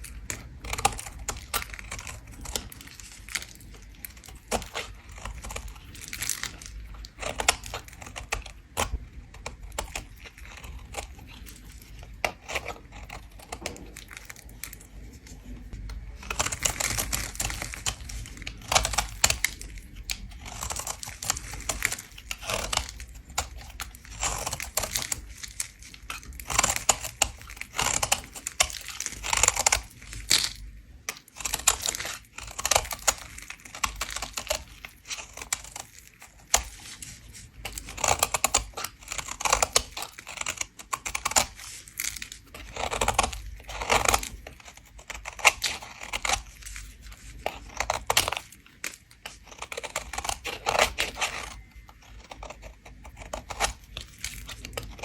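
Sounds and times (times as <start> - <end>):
soap being scraped: 0.0 - 55.0.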